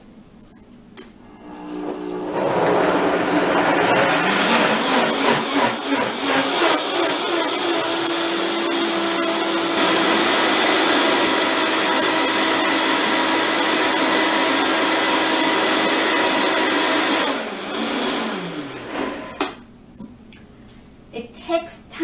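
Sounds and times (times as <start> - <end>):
blender running: 1.2 - 19.6
blender motor winding down: 1.3 - 19.5.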